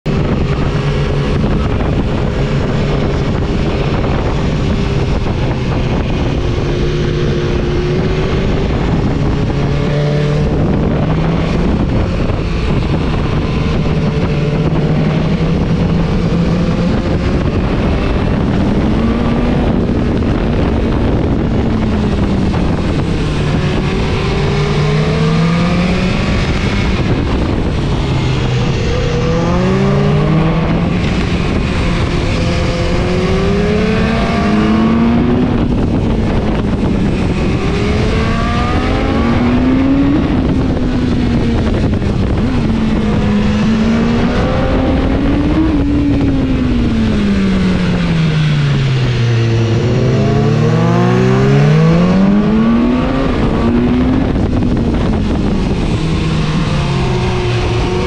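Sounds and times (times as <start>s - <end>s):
motorcycle engine revving: 0.0s - 58.0s
wind noise on microphone: 0.0s - 58.0s.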